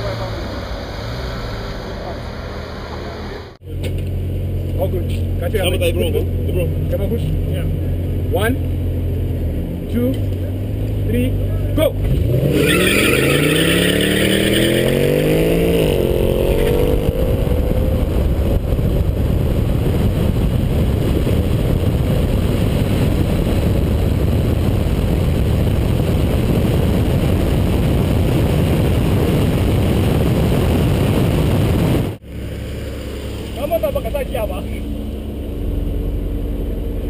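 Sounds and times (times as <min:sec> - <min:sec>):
car engine revving: 0:00.0 - 0:37.0
wind and road noise: 0:00.0 - 0:37.0.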